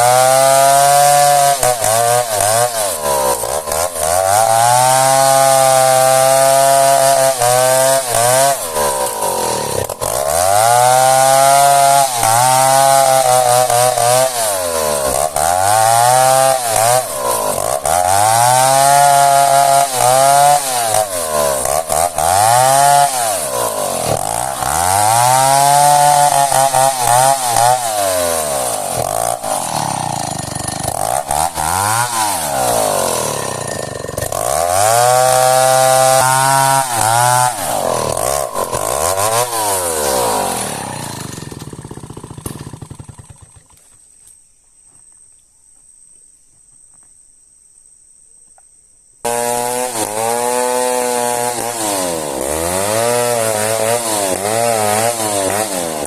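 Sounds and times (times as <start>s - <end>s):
chainsaw cutting log: 0.0s - 44.1s, 49.2s - 56.0s.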